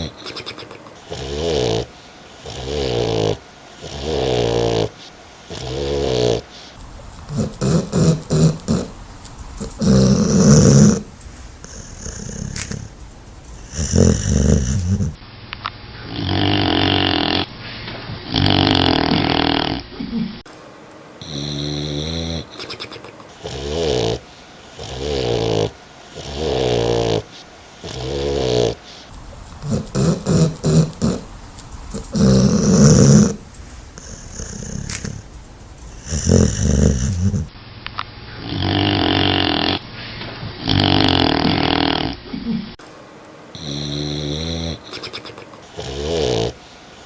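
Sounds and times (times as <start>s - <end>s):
dog snoring: 0.0s - 15.2s, 16.0s - 17.5s, 18.2s - 20.3s, 21.2s - 37.5s, 38.3s - 39.8s, 40.5s - 42.6s, 43.6s - 47.0s.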